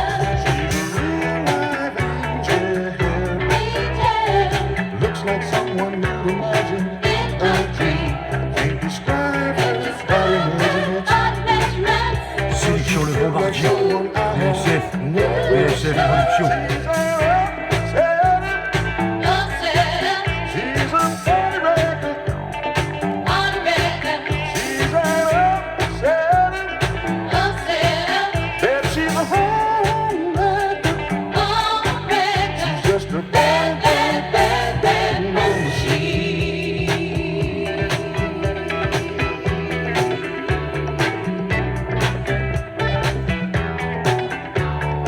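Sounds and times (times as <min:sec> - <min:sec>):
soul-funk song: 0:00.0 - 0:45.0.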